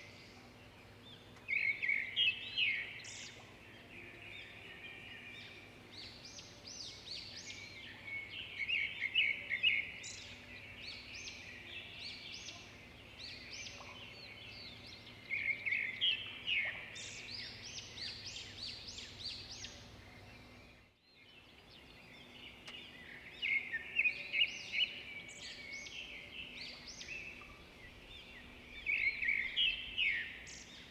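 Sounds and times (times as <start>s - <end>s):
outdoor background noise: 0.0s - 30.9s
small birds chirping: 0.0s - 30.9s.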